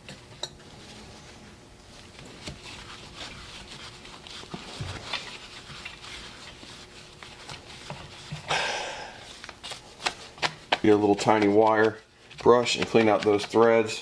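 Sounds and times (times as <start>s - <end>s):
gloves rubbing: 0.7s - 14.0s.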